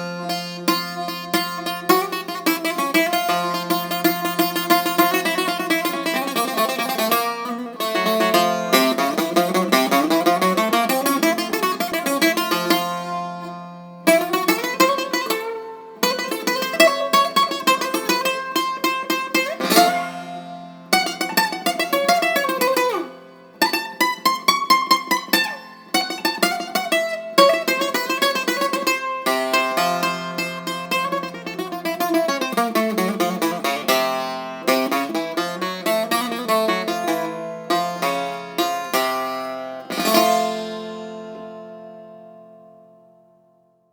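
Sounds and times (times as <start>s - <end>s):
bouzouki plucked improvisation: 0.0s - 43.9s.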